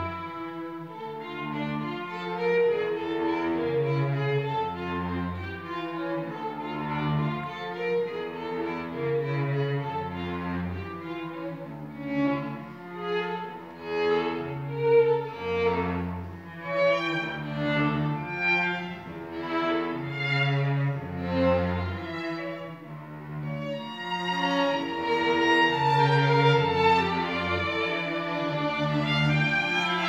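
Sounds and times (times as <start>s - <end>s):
clarinets and strings playing: 0.0s - 30.0s.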